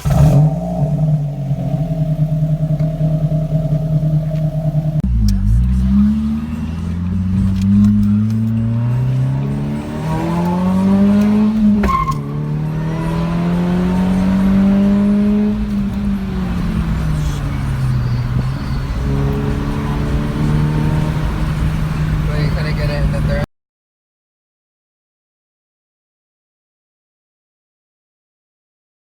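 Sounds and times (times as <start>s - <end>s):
car engine accelerating: 0.0s - 23.5s.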